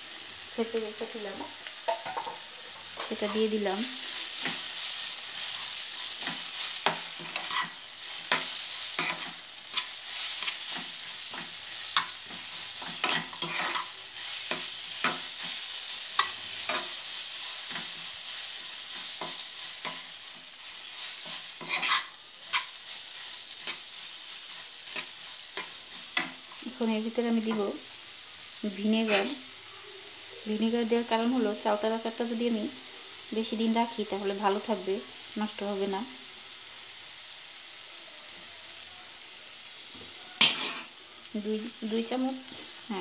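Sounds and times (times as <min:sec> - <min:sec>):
food sizzling in oil: 0:00.0 - 0:43.0.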